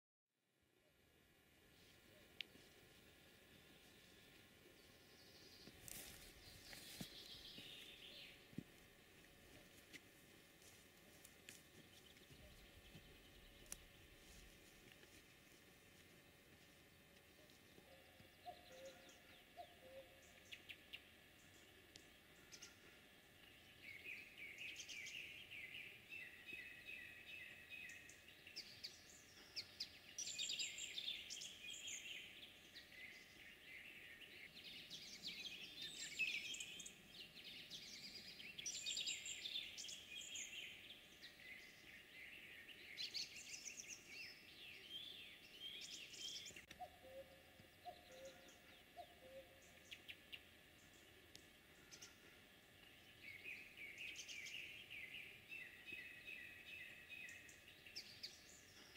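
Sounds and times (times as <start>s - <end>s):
faint songbirds singing: 0.7s - 58.9s.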